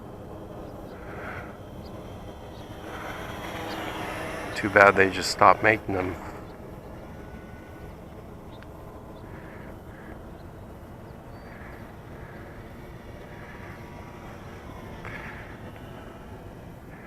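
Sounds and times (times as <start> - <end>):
model plane motor buzzing: 0.0 - 17.0
steady low rumble: 0.0 - 17.0.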